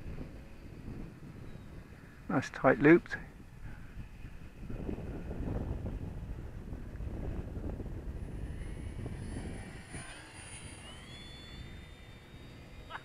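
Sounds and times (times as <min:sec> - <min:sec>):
model plane motor whining: 0:00.0 - 0:13.0
wind rumble on microphone: 0:00.0 - 0:13.0.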